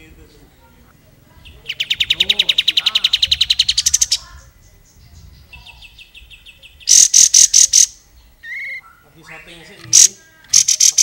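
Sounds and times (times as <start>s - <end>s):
bulbul singing: 1.3s - 11.0s.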